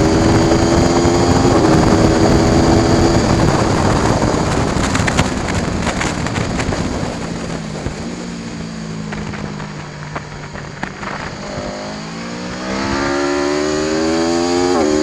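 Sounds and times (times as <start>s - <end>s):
motorcycle engine: 0.0s - 15.0s
wind rushing over microphone: 0.0s - 15.0s.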